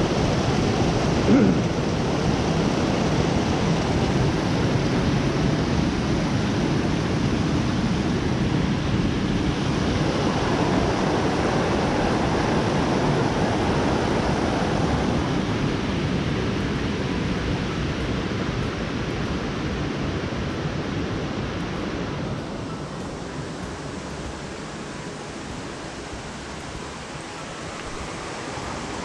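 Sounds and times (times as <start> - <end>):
creek rushing over rocks: 0.0 - 29.0.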